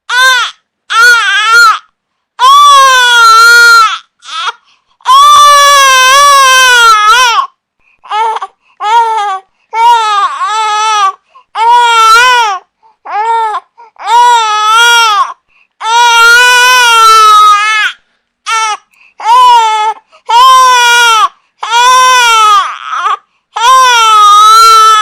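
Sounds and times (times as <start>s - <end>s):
infant crying: 0.1s - 25.0s.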